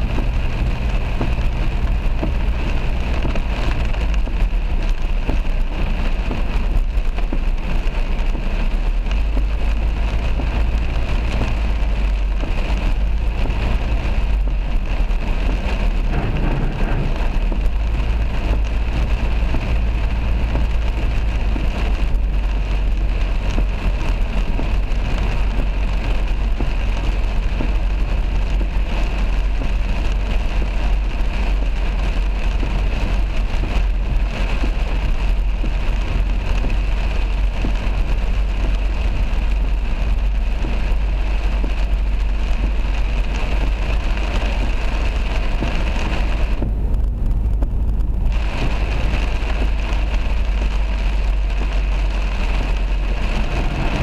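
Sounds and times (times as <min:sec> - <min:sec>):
car rumbling on road: 0:00.0 - 0:54.0
heavy rain on car roof: 0:00.0 - 0:54.0.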